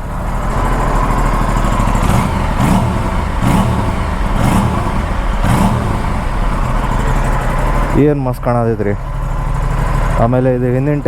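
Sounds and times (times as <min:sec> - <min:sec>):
engine throttle blips: 0:00.0 - 0:11.0
motorcycle engine idling: 0:00.0 - 0:11.0.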